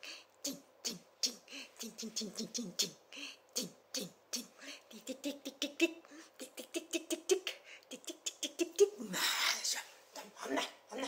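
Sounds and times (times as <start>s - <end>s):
woman chanting rapid syllables: 0.0s - 11.0s.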